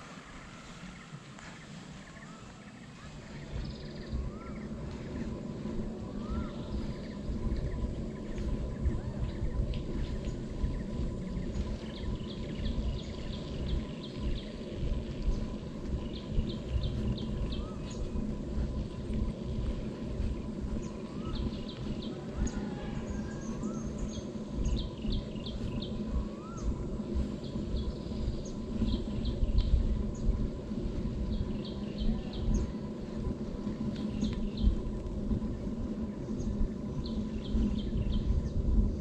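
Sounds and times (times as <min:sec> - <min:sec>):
birds calling: 0:00.0 - 0:38.9
low background rumble: 0:00.0 - 0:39.0
high ticking bird notes: 0:00.8 - 0:38.7.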